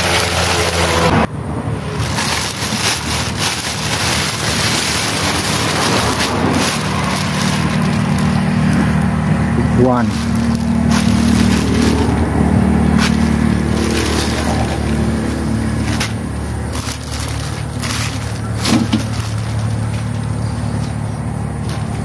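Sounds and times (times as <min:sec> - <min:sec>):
low motor hum: 0:00.0 - 0:22.0
plastic bag crinkling: 0:01.8 - 0:09.2, 0:10.0 - 0:20.8.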